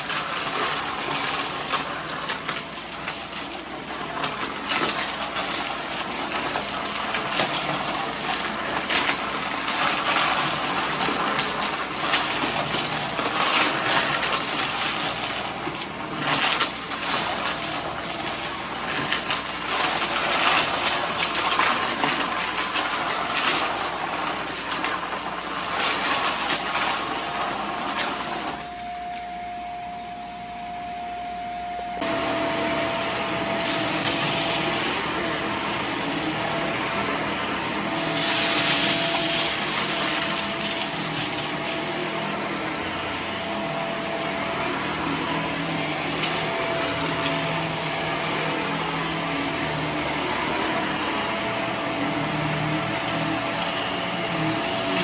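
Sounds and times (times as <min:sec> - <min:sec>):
debris crackling in vacuum: 0:00.0 - 0:29.3, 0:32.9 - 0:55.0
vacuum cleaner running: 0:00.0 - 0:55.0.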